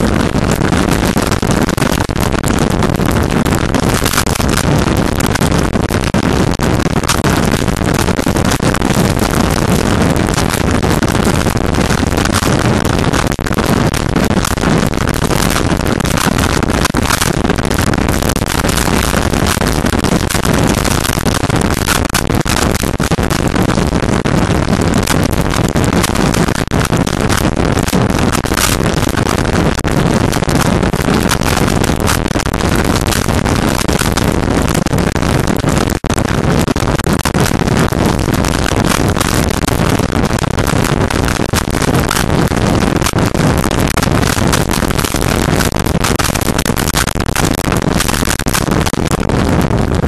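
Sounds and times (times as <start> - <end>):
crackle of hits on microphone: 0.0 - 50.0
wind rushing over microphone: 0.0 - 50.0.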